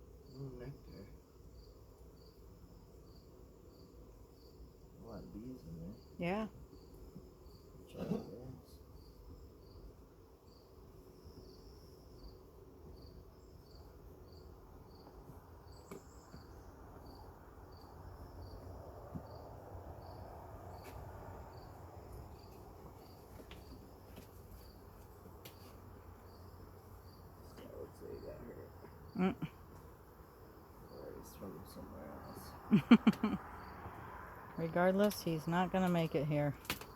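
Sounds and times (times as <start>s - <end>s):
cricket chirping: 0.0s - 36.9s
honeybees humming: 0.0s - 36.9s.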